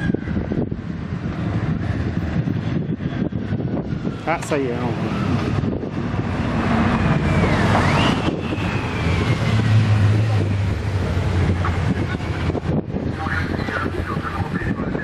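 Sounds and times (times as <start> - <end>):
motorcycles passing: 0.0 - 15.0
wind buffeting microphone: 0.0 - 15.0.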